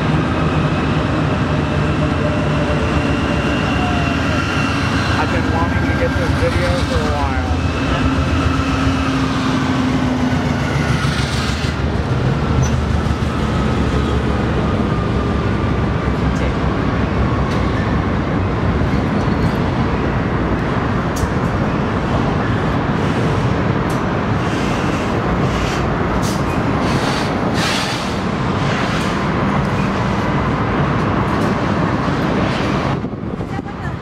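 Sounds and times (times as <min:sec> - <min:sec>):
freight train wheels rumbling on rail: 0:00.0 - 0:34.0.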